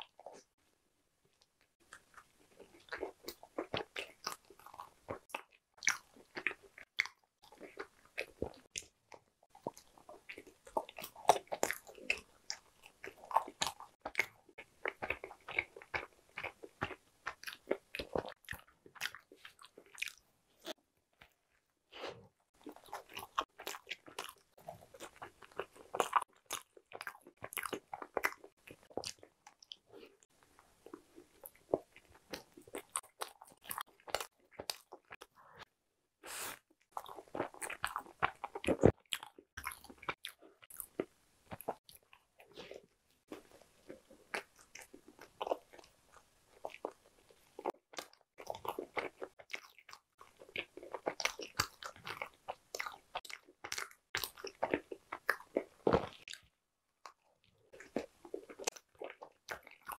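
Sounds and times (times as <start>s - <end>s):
chewing soft bun: 1.3s - 59.9s.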